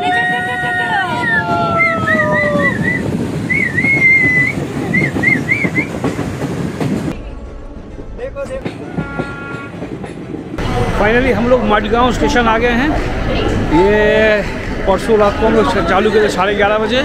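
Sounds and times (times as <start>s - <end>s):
train rumble with rail clatter: 0.0s - 17.0s.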